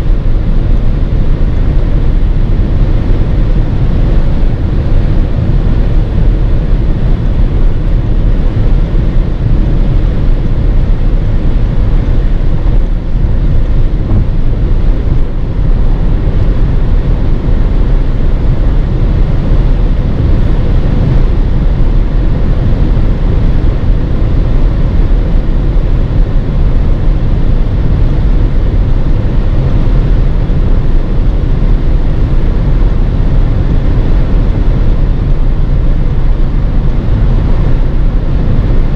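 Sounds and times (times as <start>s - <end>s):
car driving at high speed: 0.0s - 38.9s.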